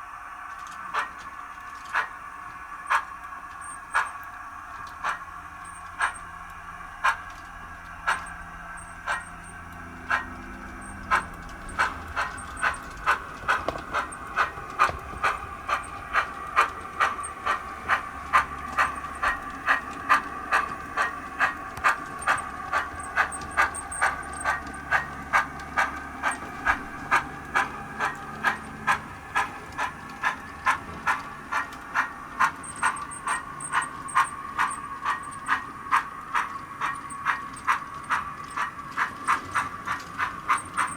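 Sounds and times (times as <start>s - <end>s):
steam locomotive chuffs from speaker: 0.0s - 40.9s.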